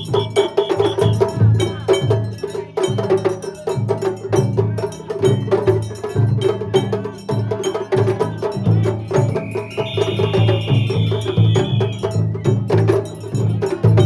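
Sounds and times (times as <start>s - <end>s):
small hand percussion strikes: 0.0s - 14.0s
taiko drums beaten: 0.0s - 14.0s.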